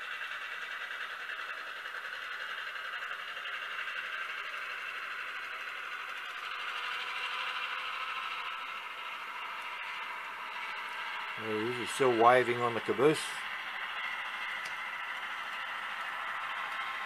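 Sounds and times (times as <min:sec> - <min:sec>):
model locomotive running on track: 0:00.0 - 0:17.0.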